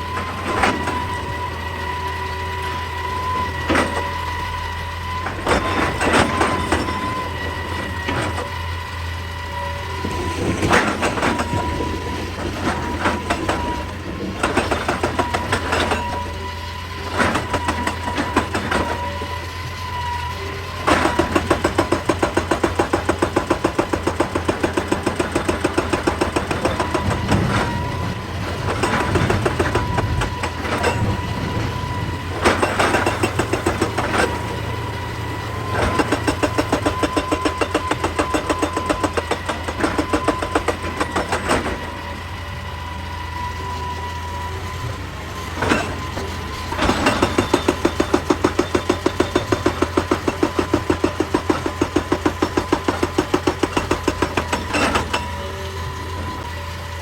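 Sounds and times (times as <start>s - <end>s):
hydraulic breaker hammering rock: 0.0s - 8.8s, 9.5s - 19.7s, 20.3s - 42.6s, 45.5s - 56.5s
diesel engine running: 0.0s - 57.0s.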